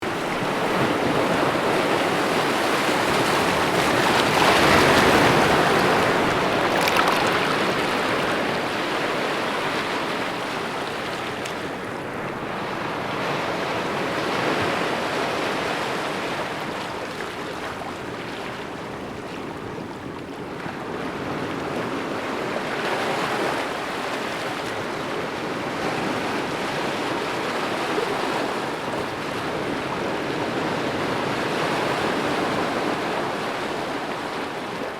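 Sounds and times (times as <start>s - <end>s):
ocean waves breaking on beach: 0.0s - 34.9s.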